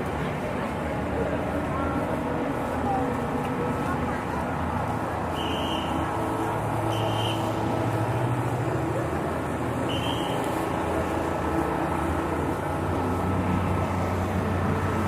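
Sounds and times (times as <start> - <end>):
crowd chatter: 0.0 - 15.0
traffic hum: 0.0 - 15.0.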